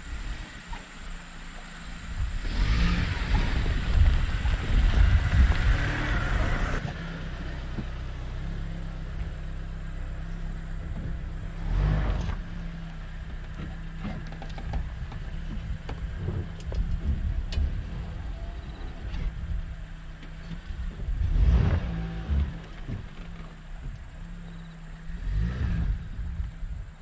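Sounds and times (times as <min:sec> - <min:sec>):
car engine and tyres on grass: 0:00.0 - 0:27.0
low engine hum: 0:00.0 - 0:27.0.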